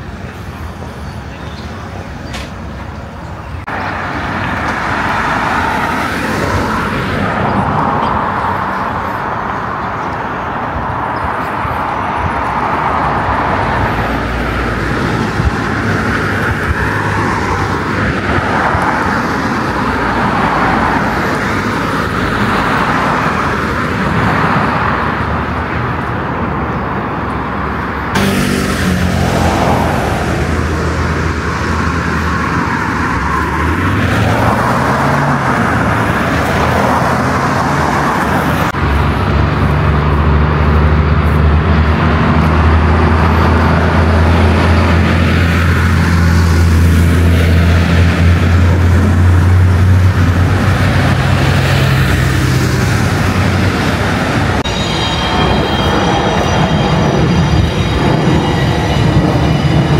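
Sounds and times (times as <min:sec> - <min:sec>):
passing cars: 0:00.0 - 0:59.9.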